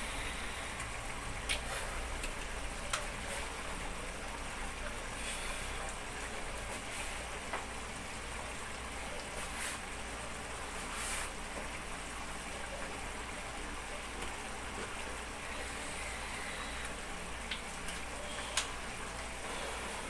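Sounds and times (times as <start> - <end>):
simmering hiss: 0.0 - 20.0.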